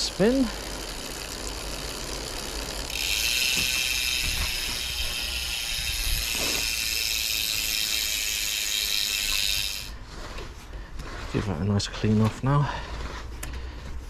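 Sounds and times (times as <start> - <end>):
bicycle wheel freehub ratcheting: 0.0 - 11.4, 13.0 - 13.9.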